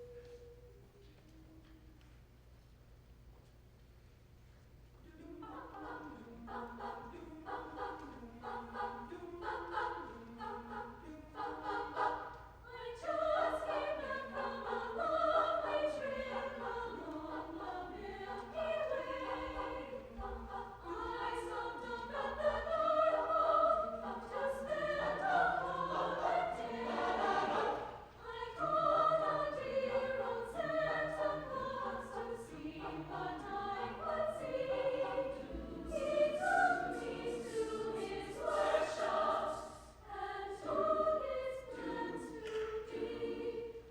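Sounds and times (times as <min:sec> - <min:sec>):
choir singing: 0:05.0 - 0:43.9.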